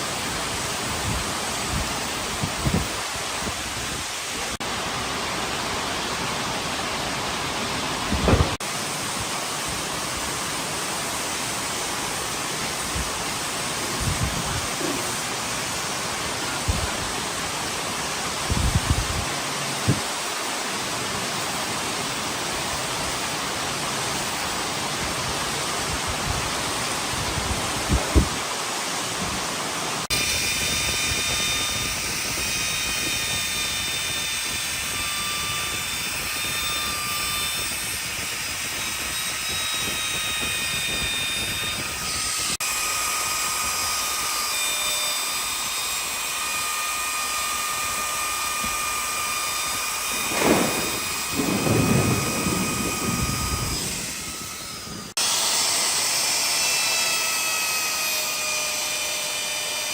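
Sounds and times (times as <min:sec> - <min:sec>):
hiss: 0:00.0 - 0:59.9
power tool motor whine: 0:07.0 - 0:28.4, 0:30.0 - 0:59.9.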